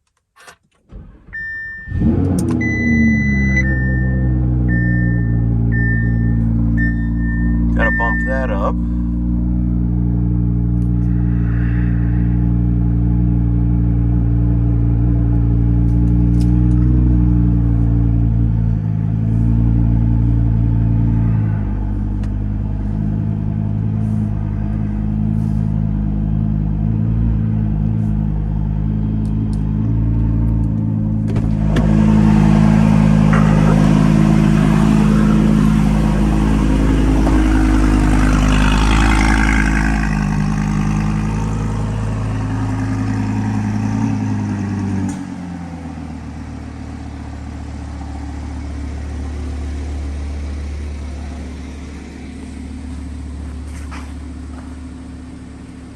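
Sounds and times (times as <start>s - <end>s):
car engine idling: 0.4s - 55.9s.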